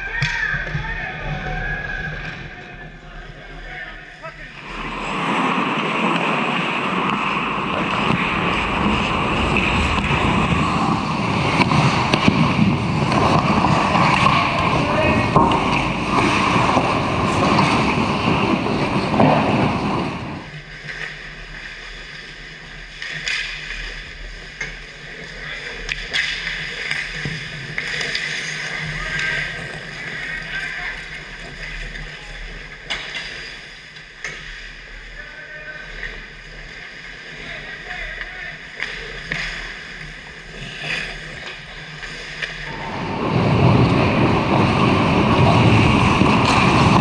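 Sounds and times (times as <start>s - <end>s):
hockey sticks and puck clacking: 0.0s - 3.4s, 4.3s - 43.0s, 43.7s - 47.0s
skates scraping on ice: 0.1s - 47.0s.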